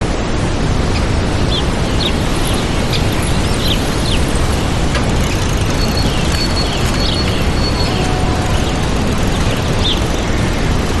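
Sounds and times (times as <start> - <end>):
small birds chirping: 1.0 - 11.0.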